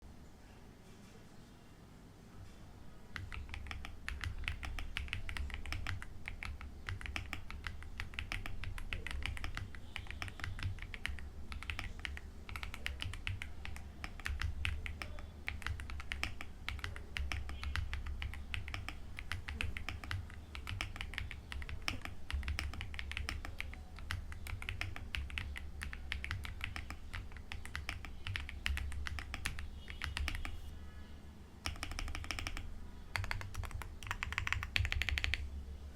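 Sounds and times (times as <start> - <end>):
mechanical keyboard typing: 3.1 - 30.7, 31.6 - 35.6.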